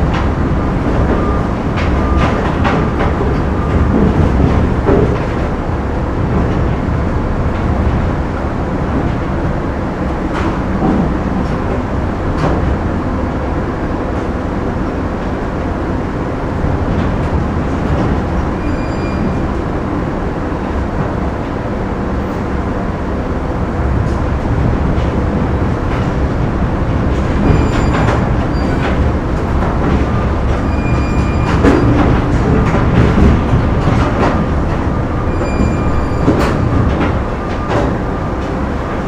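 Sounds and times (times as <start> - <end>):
heavy machinery rumble: 0.0 - 39.0.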